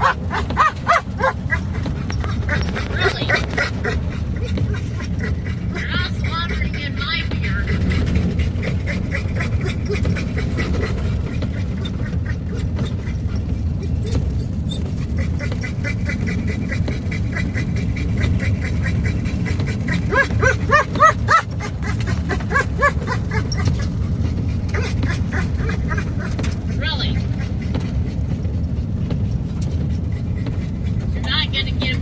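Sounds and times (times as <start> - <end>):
dog whining and yipping: 0.0 - 31.9
vehicle road rumble: 0.0 - 32.0.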